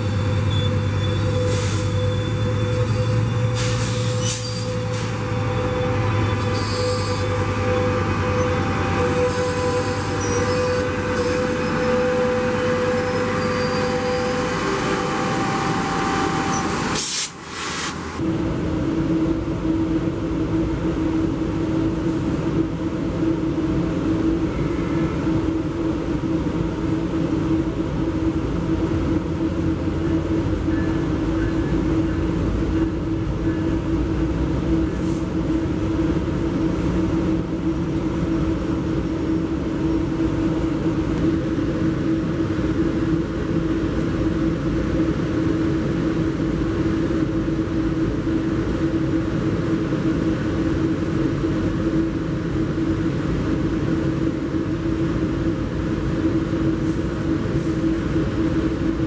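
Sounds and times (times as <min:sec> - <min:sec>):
train drone inside passenger car: 0:00.0 - 0:59.0.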